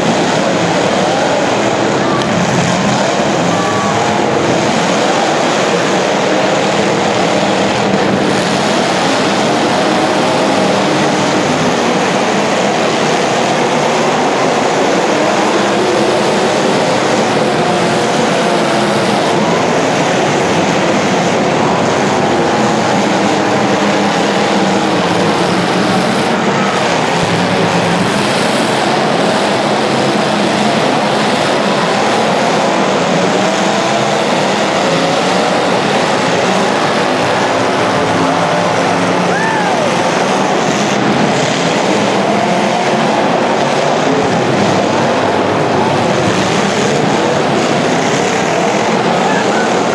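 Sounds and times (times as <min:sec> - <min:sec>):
racing engines: 0:00.0 - 0:49.9.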